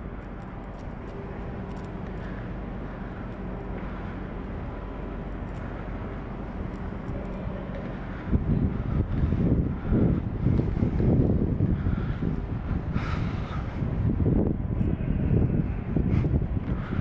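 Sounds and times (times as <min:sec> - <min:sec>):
low mechanical city hum: 0:00.0 - 0:17.0
wind buffeting microphone: 0:00.0 - 0:17.0.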